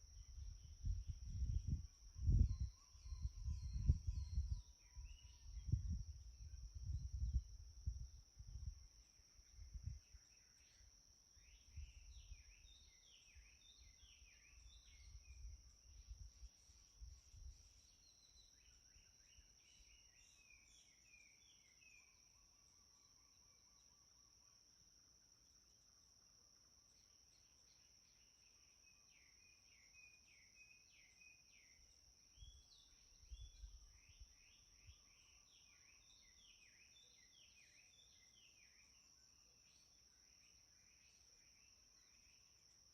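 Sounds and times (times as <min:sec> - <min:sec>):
crickets droning: 0:00.0 - 0:42.9.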